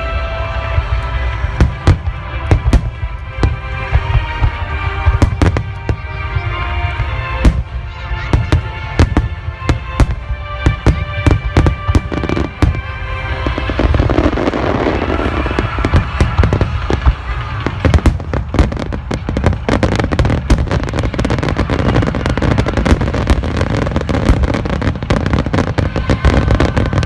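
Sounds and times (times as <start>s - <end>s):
dense fireworks crackling: 0.0s - 27.0s
fireworks booming: 0.0s - 27.0s
music over loudspeakers: 0.0s - 27.0s.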